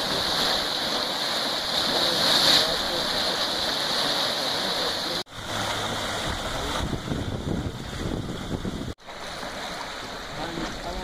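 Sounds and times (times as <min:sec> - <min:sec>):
hot spring boiling and hissing: 0:00.0 - 0:11.0
mud pot rumbling: 0:00.0 - 0:11.0.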